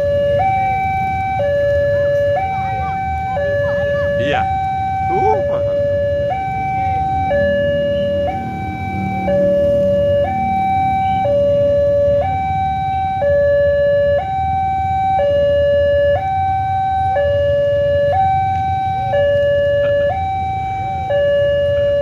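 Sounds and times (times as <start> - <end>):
two-tone crossing alarm: 0.0 - 22.0.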